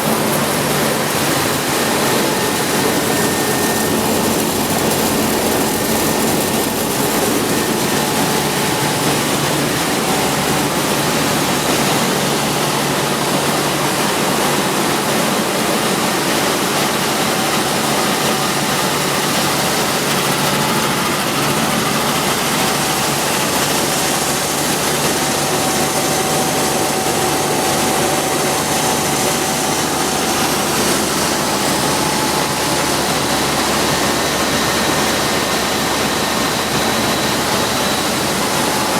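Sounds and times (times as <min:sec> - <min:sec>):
milling machinery running: 0:00.0 - 0:38.9.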